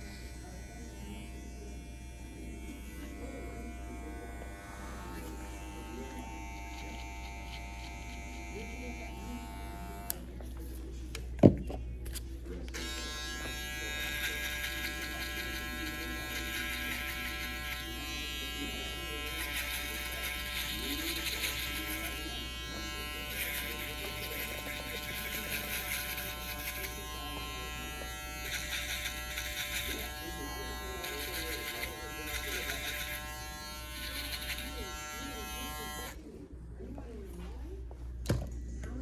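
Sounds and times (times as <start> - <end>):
electric hair clippers buzzing: 0.0 - 10.3, 12.7 - 36.2.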